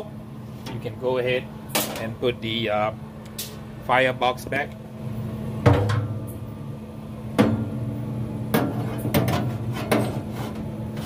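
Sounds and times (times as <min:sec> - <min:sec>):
grill humming: 0:00.0 - 0:11.0.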